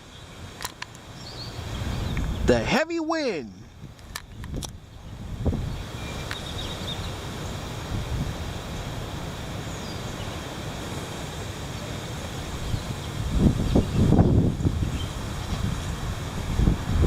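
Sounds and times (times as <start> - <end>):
wind buffeting microphone: 0.0 - 2.9, 3.5 - 10.2, 12.2 - 17.0.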